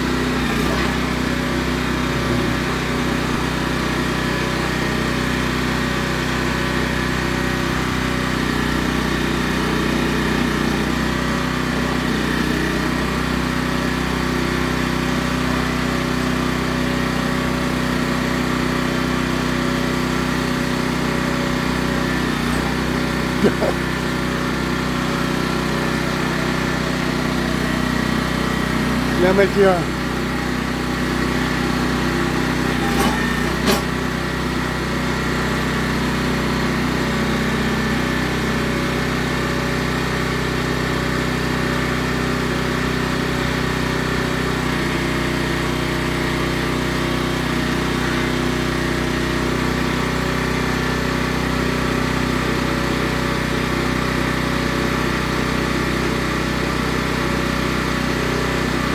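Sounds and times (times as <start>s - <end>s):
small gasoline engine running: 0.0s - 58.9s.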